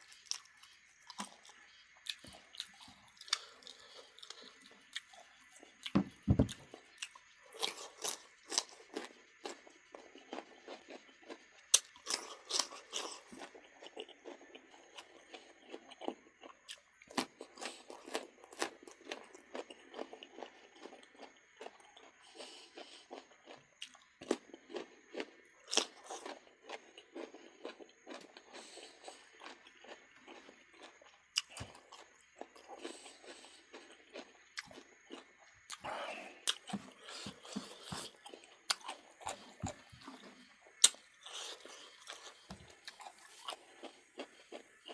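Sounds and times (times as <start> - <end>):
person chewing crunchy meat: 0.0 - 44.9.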